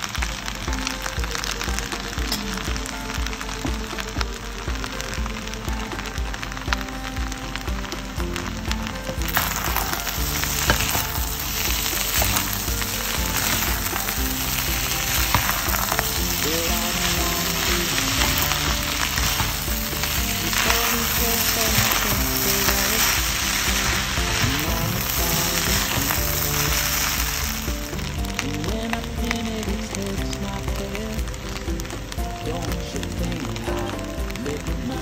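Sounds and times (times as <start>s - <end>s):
background music: 0.0s - 35.0s
fried rice sizzling in pan: 0.0s - 35.0s.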